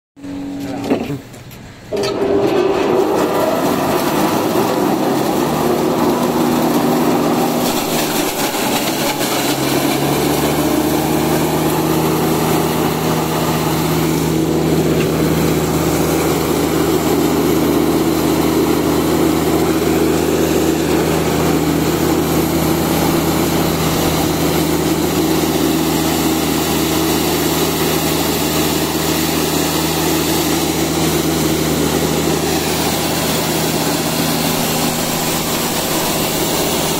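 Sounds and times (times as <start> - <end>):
hammer mill grinding corn: 1.9 - 36.9.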